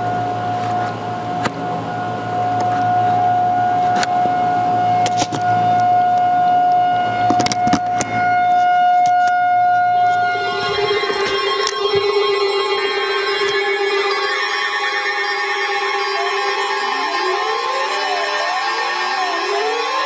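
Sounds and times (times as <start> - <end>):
warning siren steady tone: 0.0 - 20.0.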